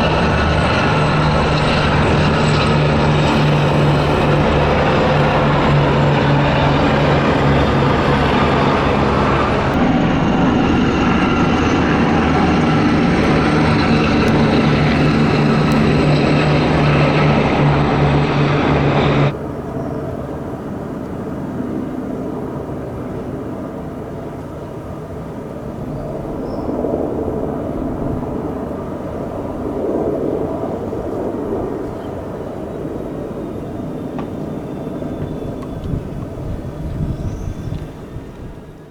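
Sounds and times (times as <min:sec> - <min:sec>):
distant aircraft rumble: 0:00.0 - 0:38.9
military aircraft engine drone: 0:00.0 - 0:38.9.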